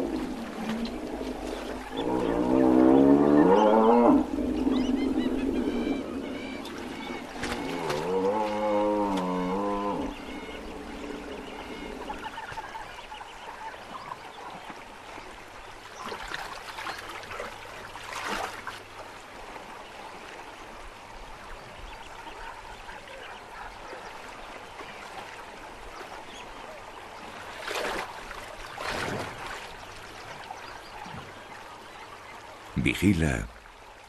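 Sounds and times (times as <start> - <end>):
hippo wading through water: 0.0 - 32.7
river water running: 0.0 - 34.0.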